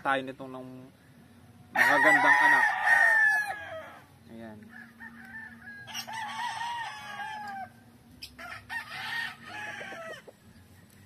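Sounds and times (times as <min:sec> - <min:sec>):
roosters crowing: 0:01.6 - 0:11.0.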